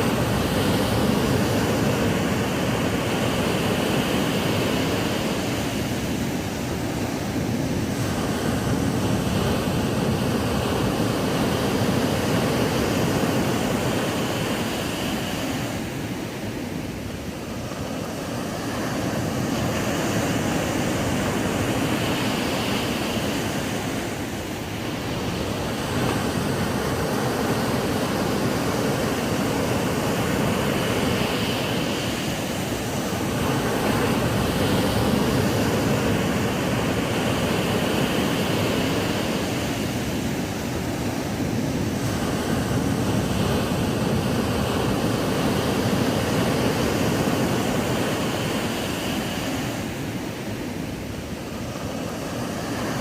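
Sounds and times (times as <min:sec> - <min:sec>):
ocean surf washing onto beach: 0:00.0 - 0:53.0.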